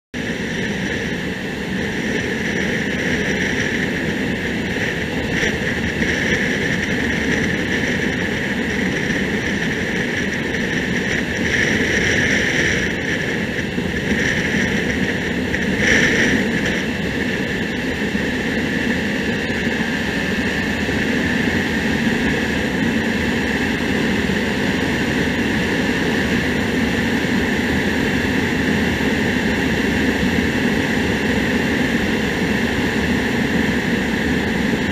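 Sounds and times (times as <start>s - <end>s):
motorcycle engine drone: 0.1s - 34.9s
wind noise rushing: 0.2s - 34.9s.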